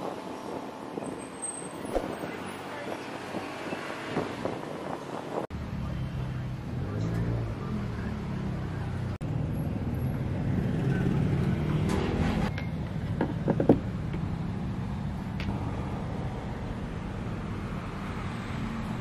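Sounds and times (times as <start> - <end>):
street traffic rumbling: 0.0 - 19.0.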